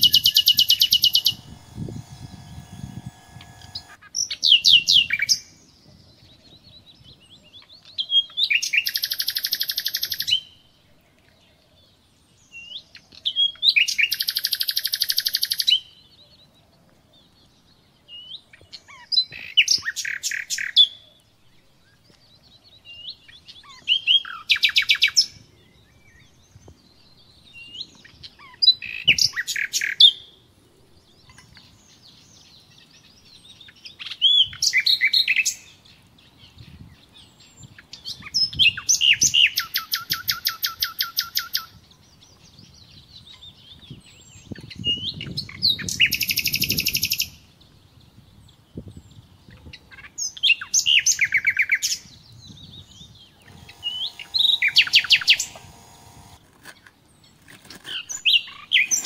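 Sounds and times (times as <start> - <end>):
songbird singing trills: 0.0 - 30.4, 31.0 - 56.4.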